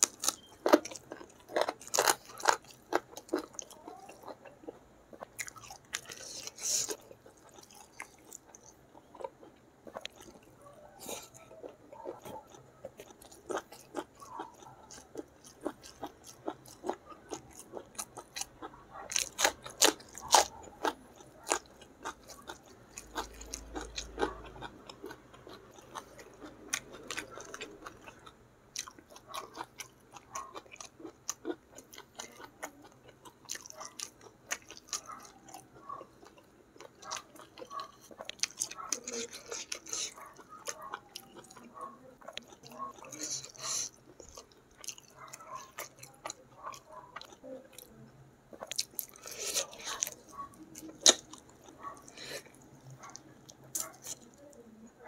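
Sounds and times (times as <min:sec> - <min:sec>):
wet chewing and crunching: 0:00.0 - 0:54.6.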